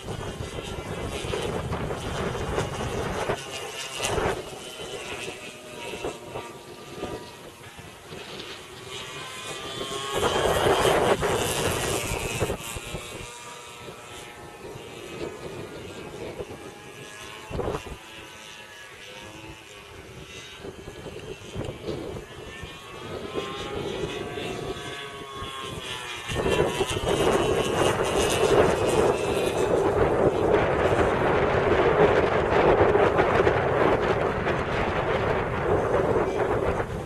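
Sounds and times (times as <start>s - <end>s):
model airplane engine droning: 0.0s - 37.0s
wind noise on microphone: 0.0s - 37.0s.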